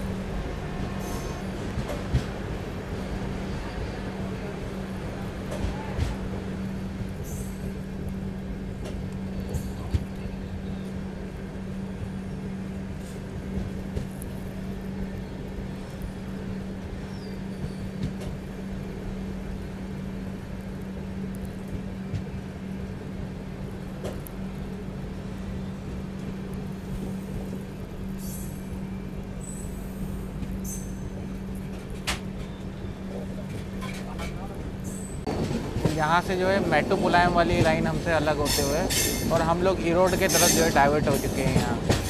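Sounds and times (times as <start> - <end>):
passenger train rumble: 0.0 - 42.0.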